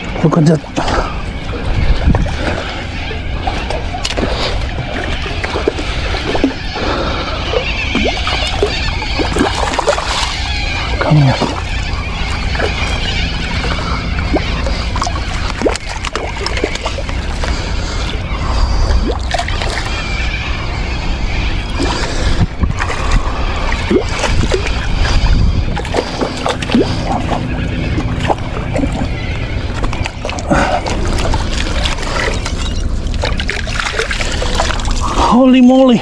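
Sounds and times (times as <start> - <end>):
water sloshing and splashing: 0.0 - 36.0
wind buffeting microphone: 0.0 - 36.0.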